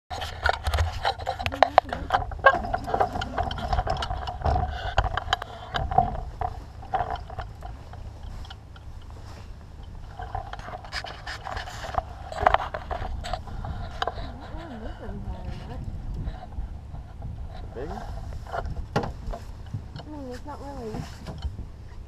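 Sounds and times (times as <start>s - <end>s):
low rumble: 0.1s - 22.0s
mid-pitched hum: 0.1s - 22.0s.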